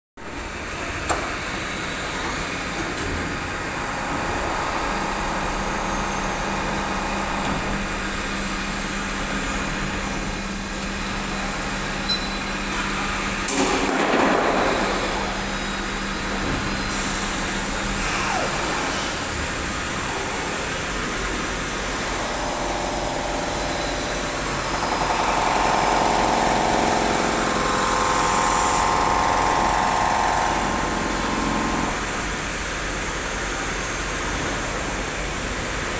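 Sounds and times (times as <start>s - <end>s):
machine mechanical hum: 0.2s - 35.9s
high machine whine: 1.9s - 35.9s.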